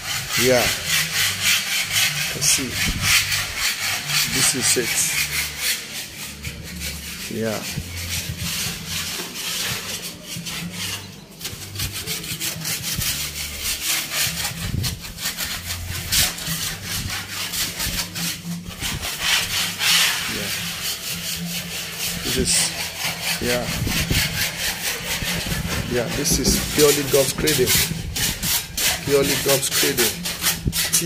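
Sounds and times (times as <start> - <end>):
hand tool scraping a cement wall: 0.0 - 31.0.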